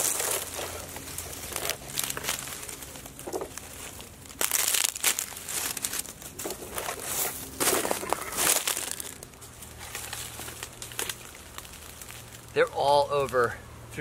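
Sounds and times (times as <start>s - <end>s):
dry leaves crackling and rustling: 0.0s - 13.9s.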